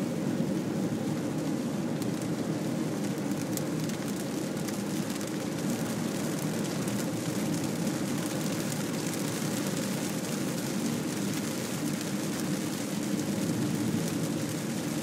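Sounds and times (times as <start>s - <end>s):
rain on car windscreen and roof: 0.0s - 15.0s.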